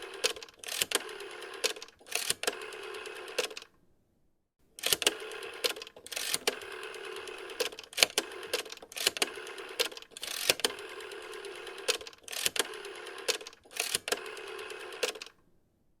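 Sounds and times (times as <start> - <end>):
rotary telephone dial whirring: 0.0 - 3.7, 4.8 - 15.3
rotary dial clicks: 0.1 - 3.7, 4.8 - 15.3.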